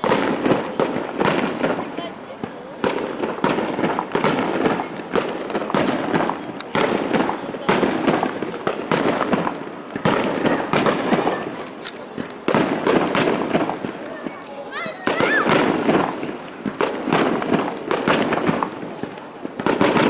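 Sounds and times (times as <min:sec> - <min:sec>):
fireworks booming: 0:00.0 - 0:20.0
rush of small firework bursts: 0:00.0 - 0:20.0.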